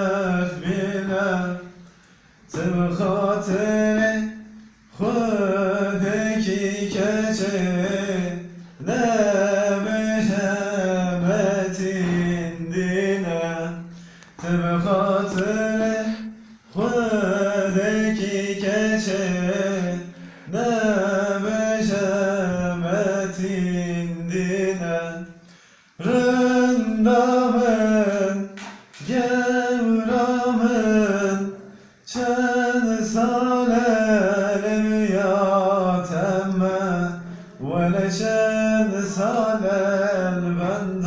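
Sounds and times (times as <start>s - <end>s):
man singing unaccompanied: 0.0s - 1.9s, 2.5s - 41.0s.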